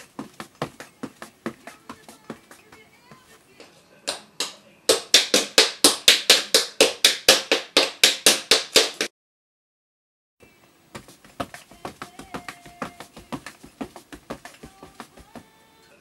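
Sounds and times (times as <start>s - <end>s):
tap shoes clicking on floor: 0.0s - 9.1s, 11.0s - 15.5s.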